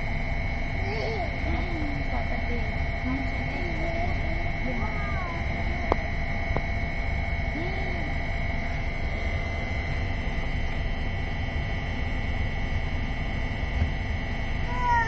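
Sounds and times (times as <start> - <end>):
thin high whine: 0.0 - 15.0
train carriage rumble and hum: 0.0 - 15.0.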